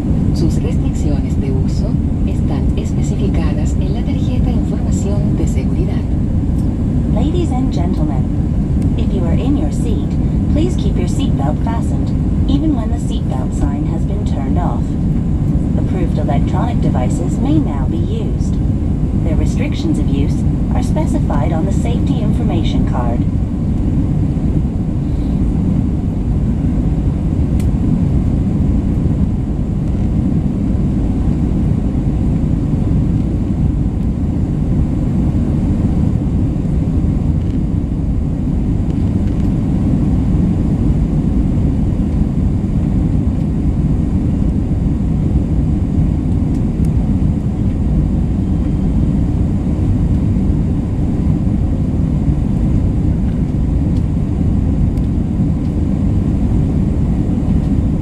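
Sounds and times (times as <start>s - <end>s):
airplane cabin rumble in flight: 0.0s - 58.0s.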